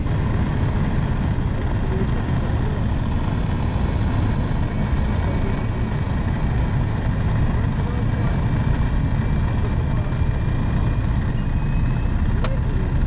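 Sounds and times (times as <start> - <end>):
propeller plane engine rumbling: 0.0 - 13.0.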